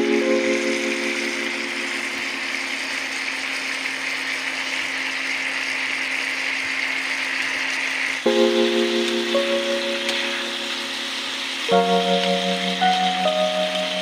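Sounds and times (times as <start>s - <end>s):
curry sizzling in a pan: 0.0s - 14.0s.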